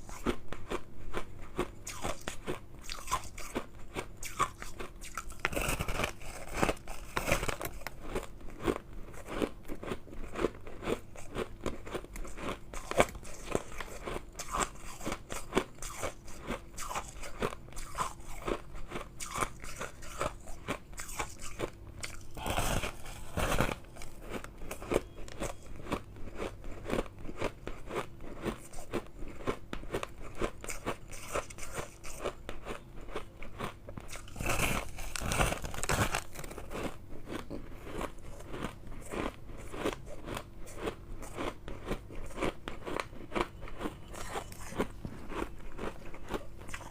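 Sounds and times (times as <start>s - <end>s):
shave ice crunching in mouth: 1.5s - 25.6s, 30.2s - 46.9s.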